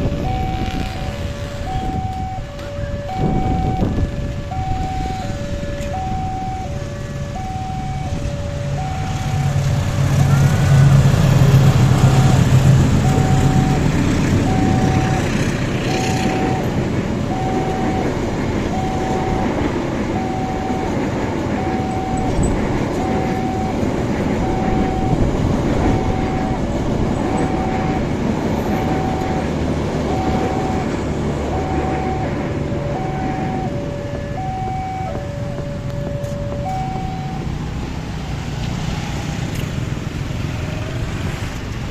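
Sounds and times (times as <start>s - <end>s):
diesel locomotive engine: 0.0s - 41.9s
train carriages rumbling past: 0.0s - 41.9s.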